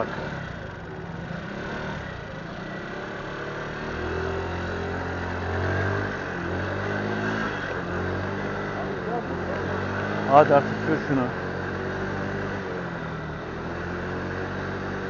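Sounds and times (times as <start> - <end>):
motorcycle engine: 0.0 - 15.0
street traffic noise: 0.0 - 15.0.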